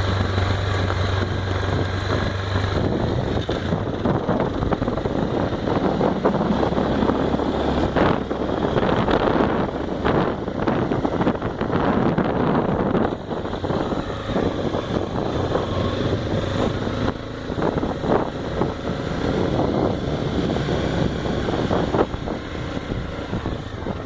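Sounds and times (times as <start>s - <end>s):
motorcycle running: 0.0s - 24.0s
wind buffeting microphone: 0.0s - 24.0s.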